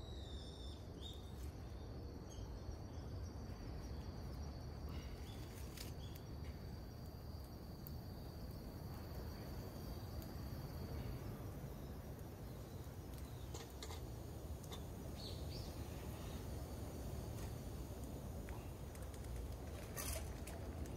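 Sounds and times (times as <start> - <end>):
campfire crackling: 3.4 - 20.9.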